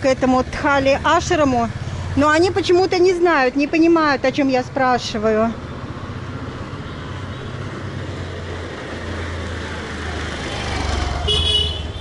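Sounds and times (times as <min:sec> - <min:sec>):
vehicle engine passing: 0:00.5 - 0:12.0.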